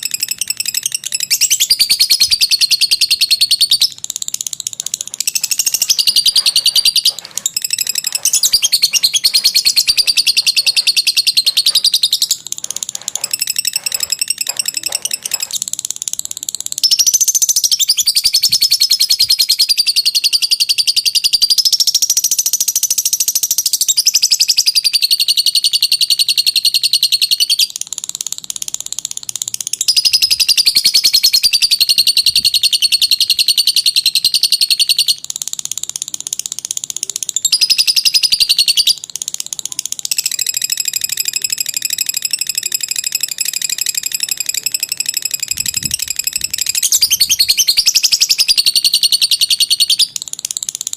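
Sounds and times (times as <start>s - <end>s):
lovebird chattering trill: 0.0s - 50.8s.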